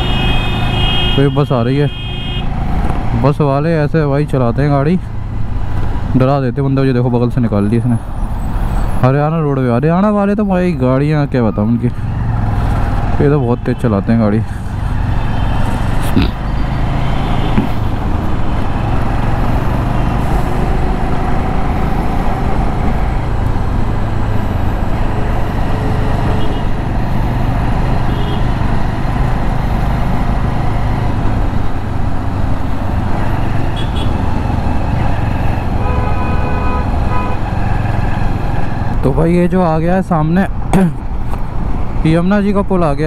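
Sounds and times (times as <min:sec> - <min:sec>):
passing vehicles: 0:00.0 - 0:43.0
road noise: 0:00.0 - 0:43.0.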